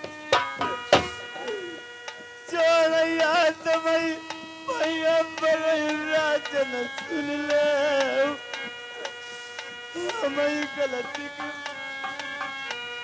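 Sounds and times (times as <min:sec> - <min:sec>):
harmonium drone: 0:00.0 - 0:13.0
person singing wordless notes: 0:00.0 - 0:13.0.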